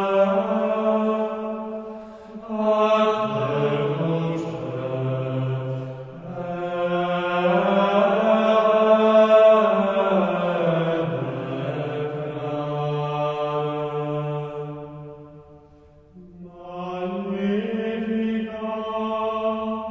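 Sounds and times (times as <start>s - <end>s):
chant-like voices holding notes: 0.0s - 19.9s.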